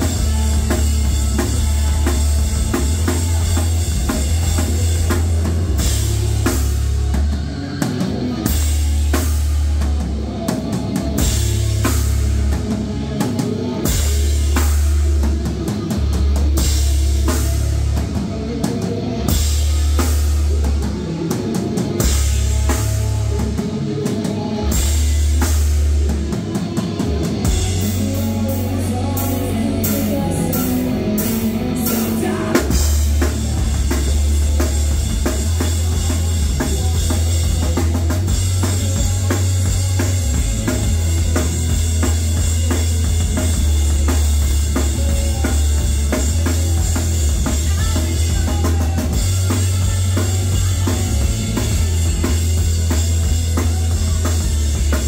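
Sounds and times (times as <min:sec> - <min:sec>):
bass guitar notes: 0:00.0 - 0:55.0
distorted electric guitars: 0:00.0 - 0:55.0.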